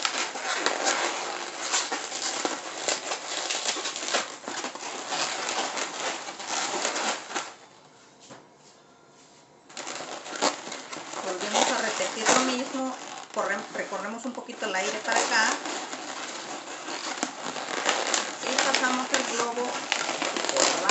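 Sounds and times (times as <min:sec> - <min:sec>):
balloons rubbing and crinkling: 0:00.0 - 0:07.7, 0:09.6 - 0:20.9.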